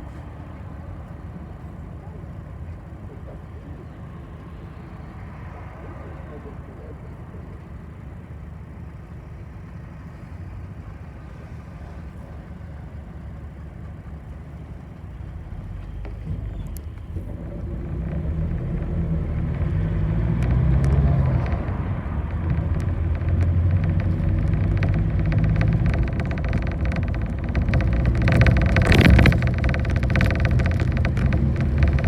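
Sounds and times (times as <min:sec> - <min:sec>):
bus engine: 0:00.0 - 0:32.0
road rumble: 0:00.0 - 0:32.0.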